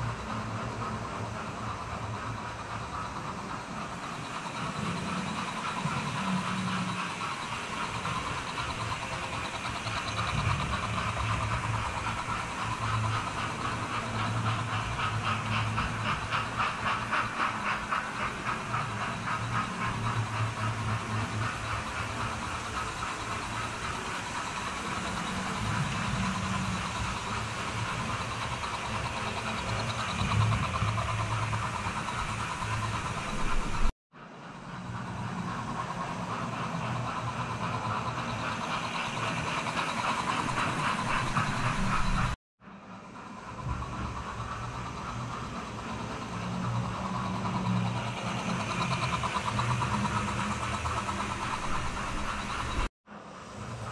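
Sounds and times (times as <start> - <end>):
model train motor whine: 0.0 - 33.9, 43.2 - 52.9
wheels clattering on rails: 0.0 - 33.9, 34.5 - 42.4, 43.0 - 52.9.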